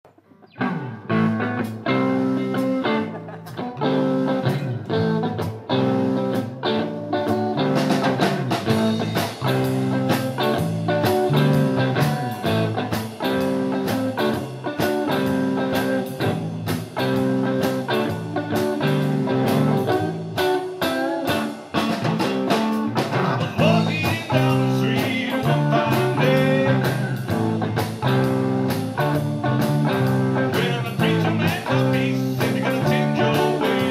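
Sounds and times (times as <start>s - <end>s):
live blues rock band: 0.4s - 33.9s.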